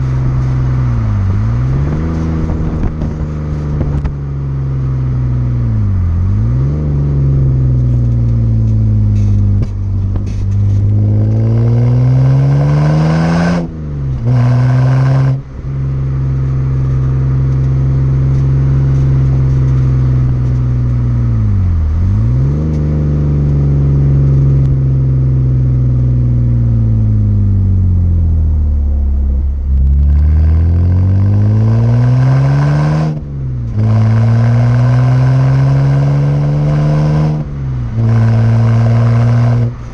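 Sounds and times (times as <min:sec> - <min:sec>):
car engine revving while driving: 0:00.0 - 0:39.9.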